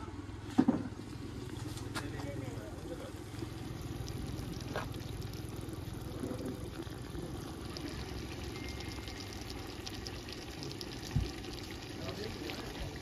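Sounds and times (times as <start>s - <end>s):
low steady rumble: 0.0s - 13.0s
curry bubbling and popping: 1.0s - 13.0s.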